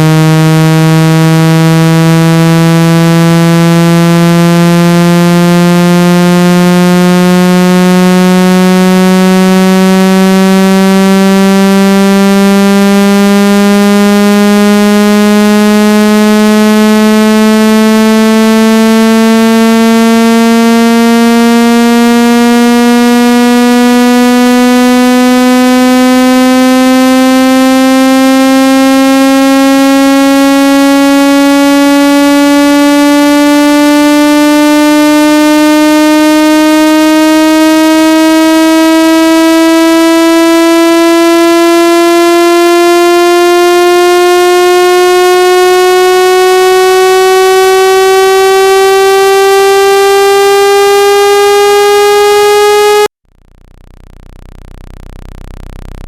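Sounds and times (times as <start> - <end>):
buzzing tone sliding upward: 0.0 - 56.0.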